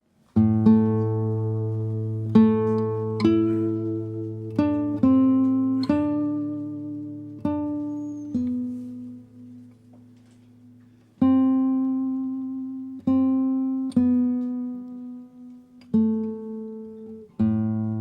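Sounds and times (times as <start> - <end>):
guitar chord: 0.4 - 18.0
guitar notes ringing: 0.4 - 18.0.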